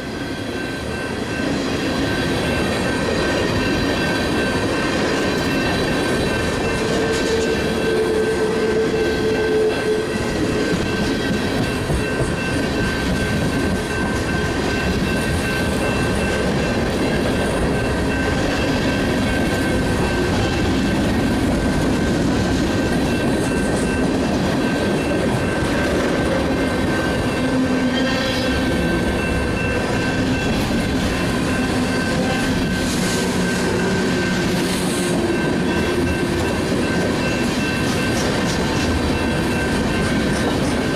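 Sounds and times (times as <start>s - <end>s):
train cars rolling past: 0.0s - 40.9s.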